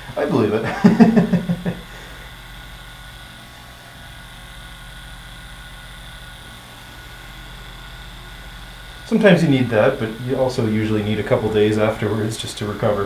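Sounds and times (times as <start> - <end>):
massage gun motor pulsing: 0.0 - 13.0.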